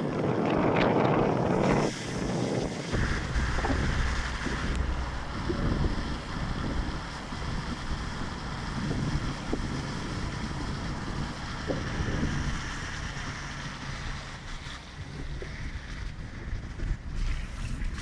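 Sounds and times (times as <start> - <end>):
wind buffeting microphone: 0.0 - 18.0
heavy rain hissing: 1.3 - 18.0.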